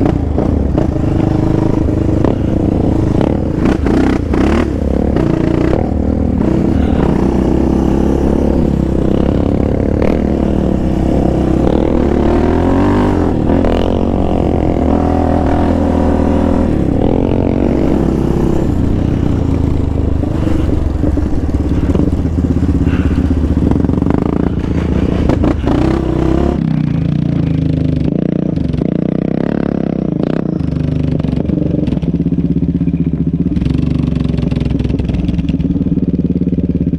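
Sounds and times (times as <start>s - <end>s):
quad engine revving: 0.0s - 32.5s.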